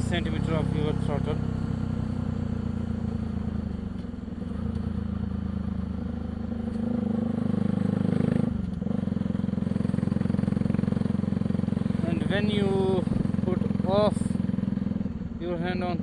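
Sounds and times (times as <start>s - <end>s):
loud motorcycle engine: 0.0s - 16.0s.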